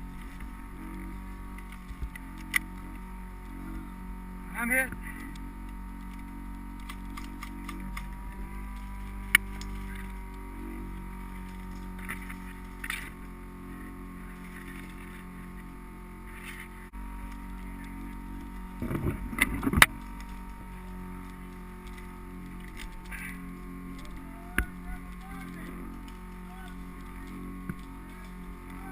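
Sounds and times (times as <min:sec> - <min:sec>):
muffled fan whirring: 0:00.0 - 0:28.9.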